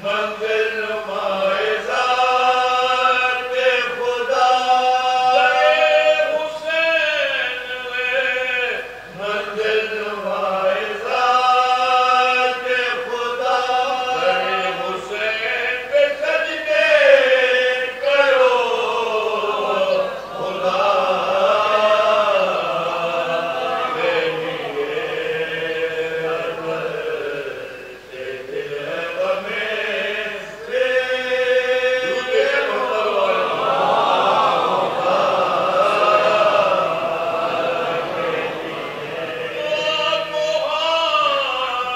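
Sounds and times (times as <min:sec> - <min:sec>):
men chanting together: 0:00.0 - 0:41.9.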